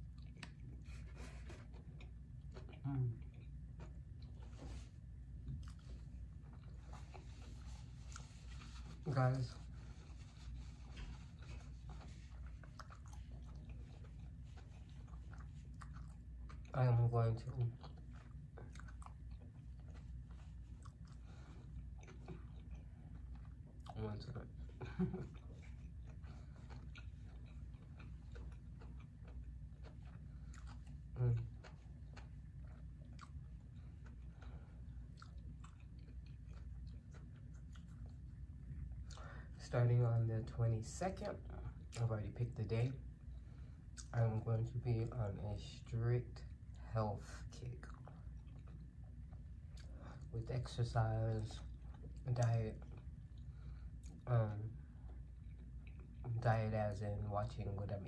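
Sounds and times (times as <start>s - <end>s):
person chewing with mouth clicks: 0.0s - 9.0s, 9.7s - 16.8s, 17.4s - 39.5s, 43.2s - 44.2s, 47.7s - 50.3s, 51.3s - 56.3s
low steady hum: 0.0s - 58.0s.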